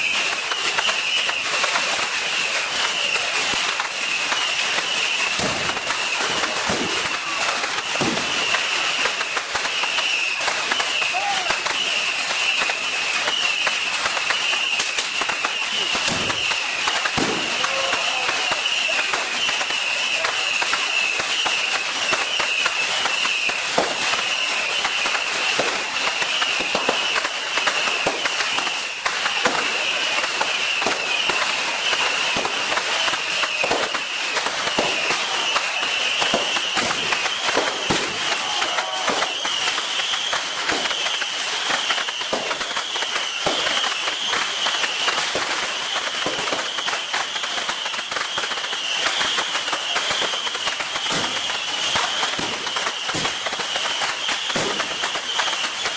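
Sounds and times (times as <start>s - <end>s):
fireworks crackling and popping: 0.0s - 55.9s.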